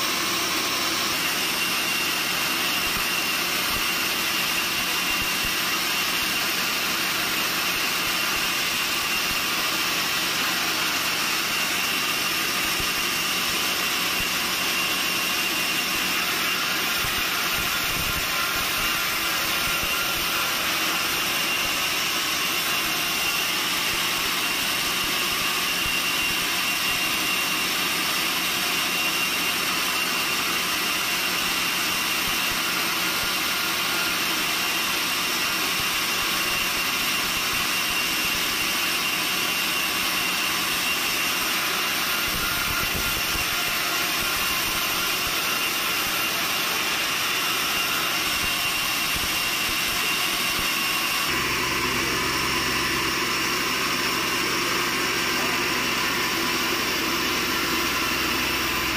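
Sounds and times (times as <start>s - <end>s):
band sawmill running: 0.0s - 58.9s
high-pitched saw whine: 0.0s - 58.9s.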